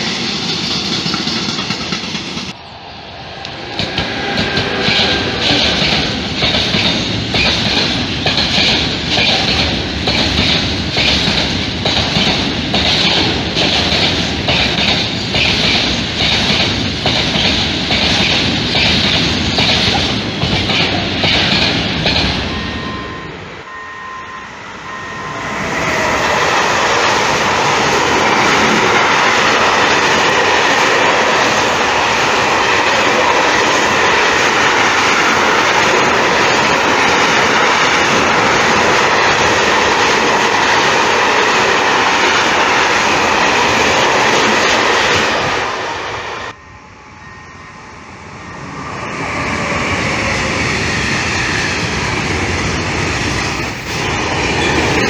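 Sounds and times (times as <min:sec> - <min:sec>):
train wheels running over rails: 0:00.0 - 0:23.4, 0:25.2 - 0:46.6.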